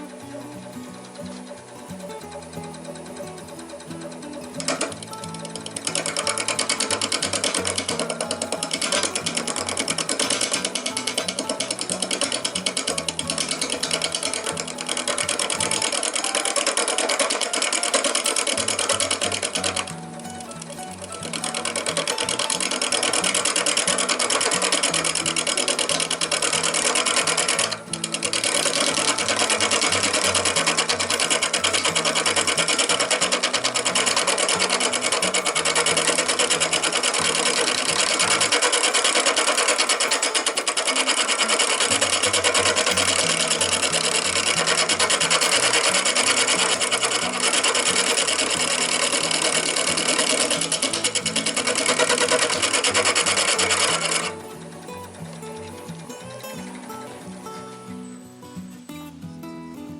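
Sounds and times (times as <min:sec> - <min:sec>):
wood lathe tool scraping wood: 0:00.0 - 0:58.2.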